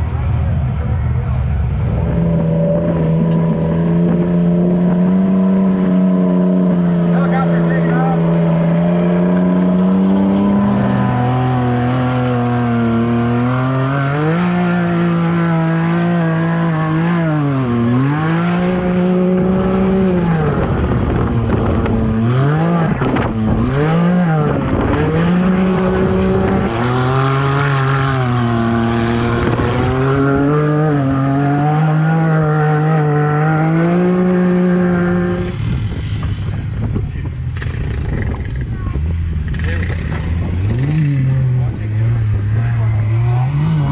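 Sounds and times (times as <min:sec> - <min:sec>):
engine revving hard: 0:02.1 - 0:35.7, 0:39.5 - 0:43.9.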